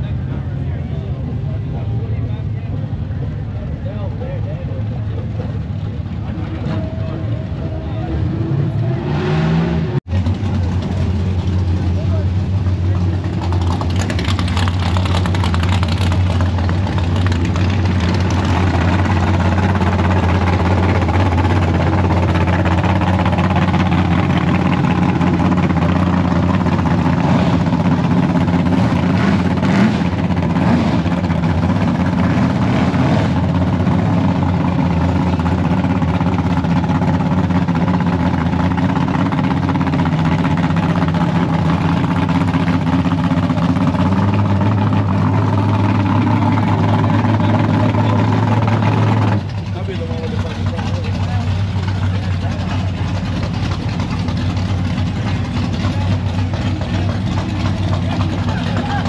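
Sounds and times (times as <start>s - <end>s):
car engine running steadily: 0.0s - 59.0s.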